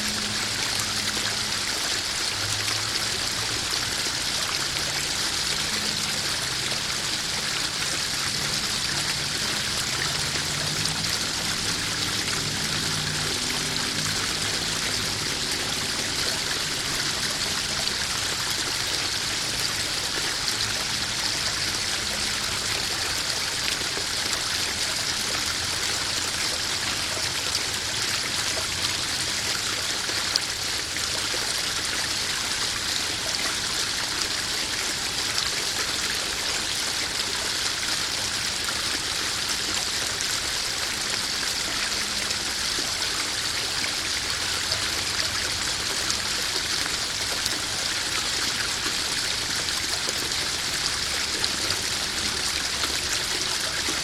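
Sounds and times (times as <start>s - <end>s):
small waterfall splashing into pond: 0.0s - 54.0s.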